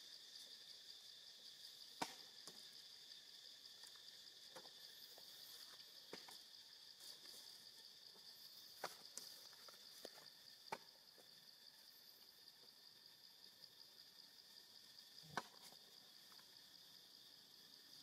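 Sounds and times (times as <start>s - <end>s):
faint insect chorus: 0.0s - 18.0s.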